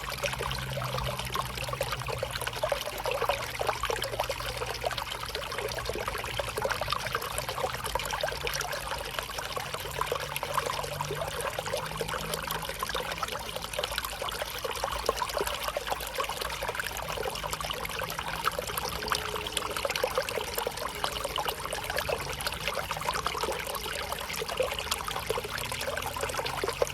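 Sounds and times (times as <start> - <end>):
river water trickling and splashing: 0.0 - 26.9.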